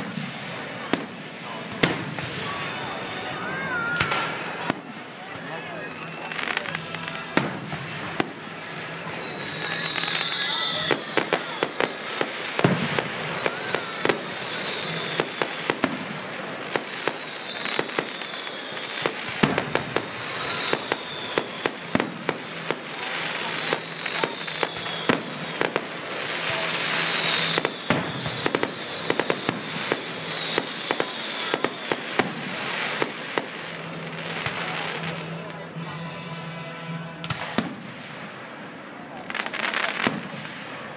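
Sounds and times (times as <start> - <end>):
fireworks bangs and crackling: 0.0 - 40.9
falling firework whistles: 1.8 - 36.5.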